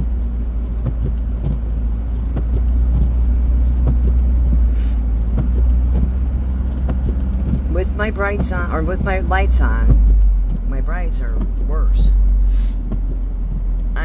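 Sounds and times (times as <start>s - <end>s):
car engine and tyre rumble: 0.0s - 14.0s
light ticks: 0.0s - 14.0s.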